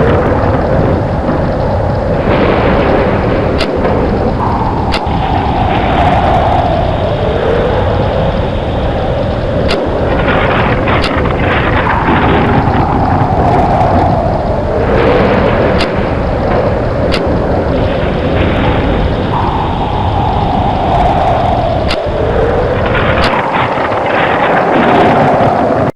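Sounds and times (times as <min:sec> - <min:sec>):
steady rushing noise: 0:00.0 - 0:25.9
storm wind gusting: 0:00.0 - 0:25.9.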